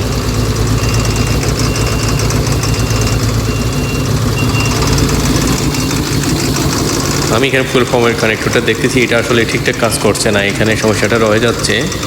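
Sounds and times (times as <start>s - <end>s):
bulldozer diesel engine idling: 0.0s - 12.0s.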